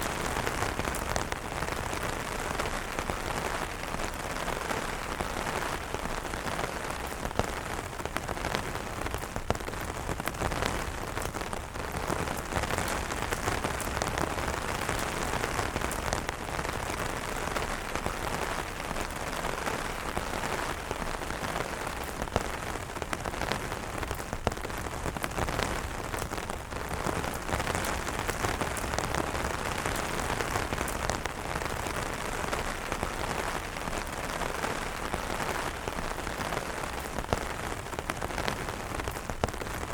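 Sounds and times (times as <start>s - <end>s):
heavy rain on umbrellas: 0.0s - 39.9s.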